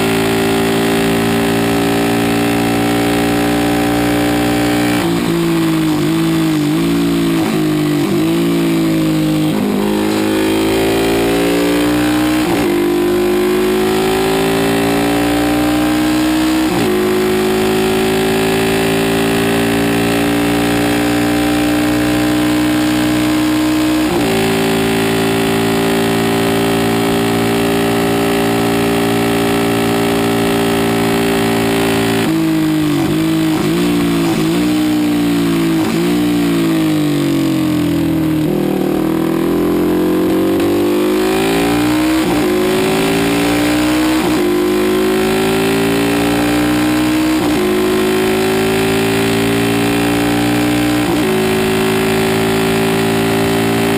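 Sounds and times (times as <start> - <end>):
racing motorcycle engine revving: 0.0 - 53.9.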